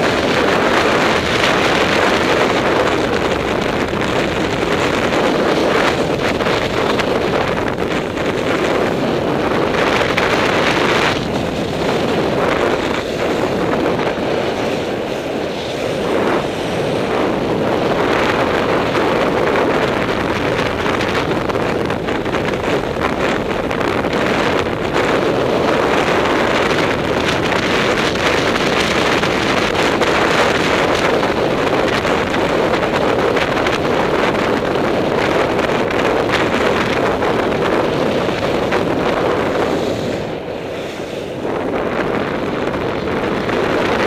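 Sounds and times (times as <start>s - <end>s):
skis running over snow: 0.0s - 44.0s
wind rushing over microphone: 0.0s - 44.0s.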